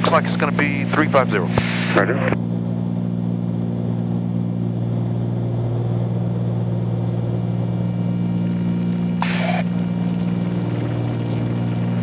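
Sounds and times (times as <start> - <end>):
twin propeller engines droning: 0.0 - 12.0.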